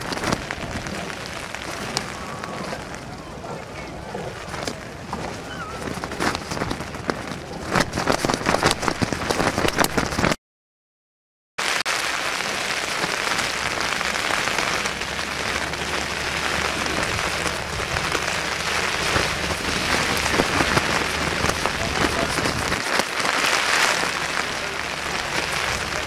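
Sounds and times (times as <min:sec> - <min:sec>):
rain pattering on camcorder: 0:00.0 - 0:10.4, 0:11.6 - 0:26.0.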